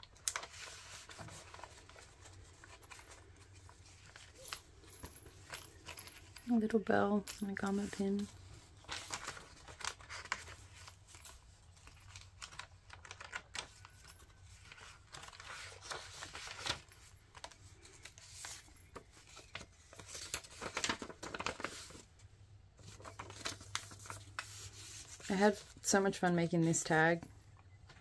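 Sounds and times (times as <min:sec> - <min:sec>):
paper pages rustling: 0:00.0 - 0:06.4, 0:07.5 - 0:26.9.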